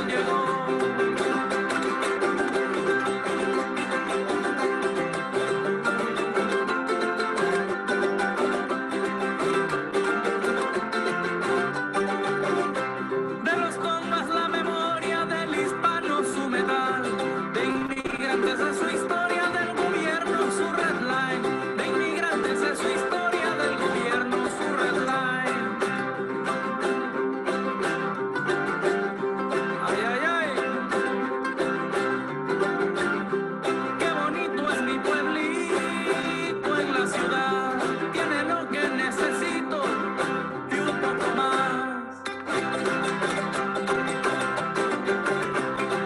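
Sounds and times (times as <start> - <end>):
plucked string instruments strumming: 0.0 - 46.0.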